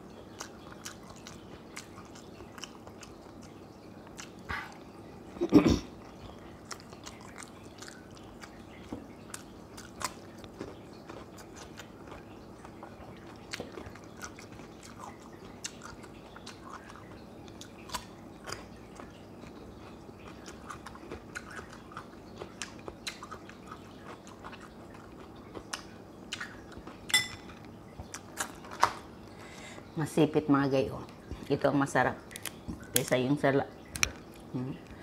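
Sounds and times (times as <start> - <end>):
wet chewing of crisp vegetable: 0.0 - 30.0, 32.2 - 35.0.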